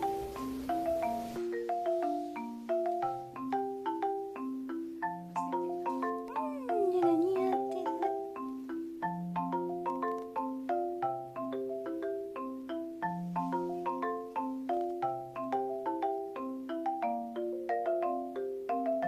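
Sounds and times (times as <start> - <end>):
mallet percussion tune: 0.0 - 19.0.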